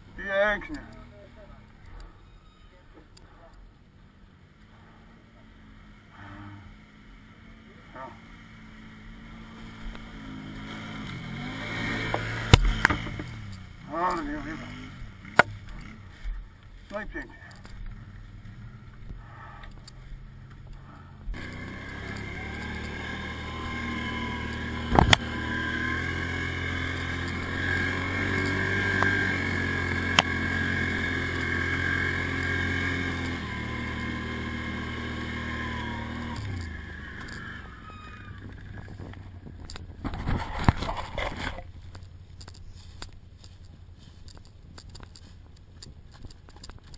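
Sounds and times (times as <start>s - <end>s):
quad bike engine running: 0.0s - 2.4s, 3.0s - 46.9s.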